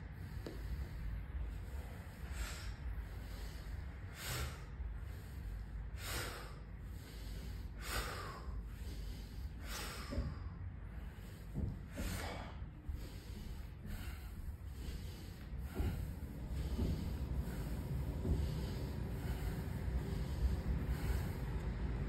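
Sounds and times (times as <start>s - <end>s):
man breathing sharply: 0.0s - 22.0s.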